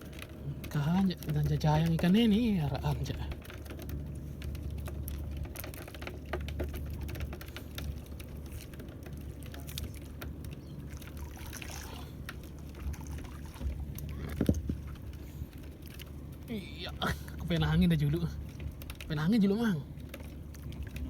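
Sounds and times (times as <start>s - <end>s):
steady low hum: 0.0s - 21.0s
water trickling and lapping: 0.0s - 21.0s.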